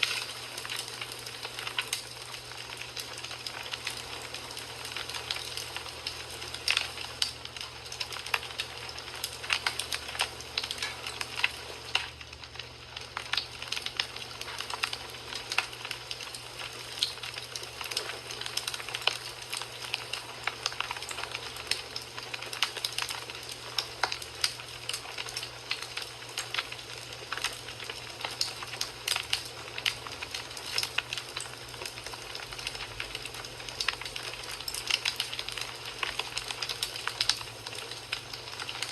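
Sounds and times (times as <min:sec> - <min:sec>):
fire crackling and popping: 0:00.0 - 0:38.9
wood fire hissing: 0:00.0 - 0:38.9.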